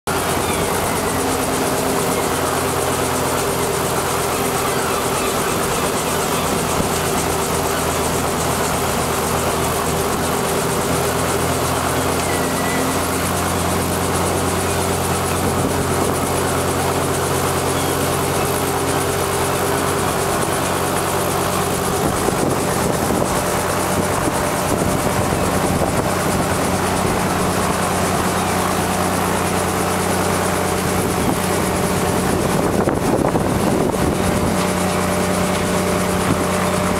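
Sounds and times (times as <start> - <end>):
helicopter engine and rotor drone: 0.1 - 36.9.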